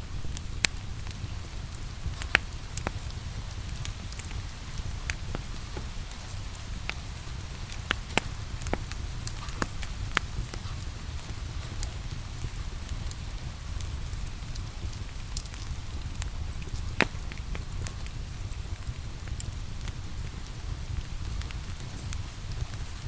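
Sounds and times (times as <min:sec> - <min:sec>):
light rain hissing: 0:00.0 - 0:23.0
wood fire crackling: 0:00.0 - 0:23.0.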